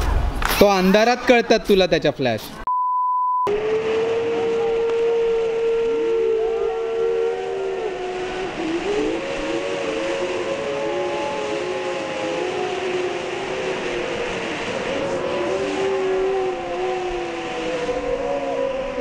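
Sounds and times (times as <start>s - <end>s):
siren-like whistling fireworks: 3.5s - 19.0s.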